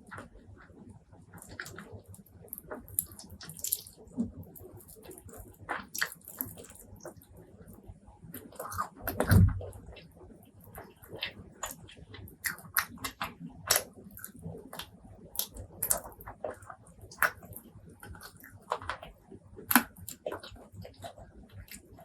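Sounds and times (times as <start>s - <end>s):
biting and chewing: 1.3s - 22.0s.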